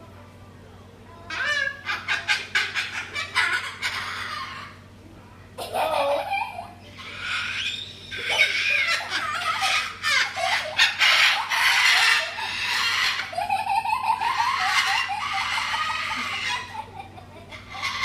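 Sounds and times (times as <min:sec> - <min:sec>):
cockatoo laughter-like calls: 0:01.3 - 0:04.8, 0:05.6 - 0:18.0.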